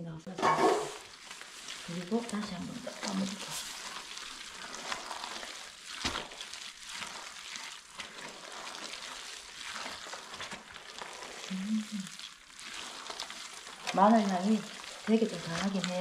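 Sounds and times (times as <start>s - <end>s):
gloved hand squeezing wet paste: 0.9s - 16.0s.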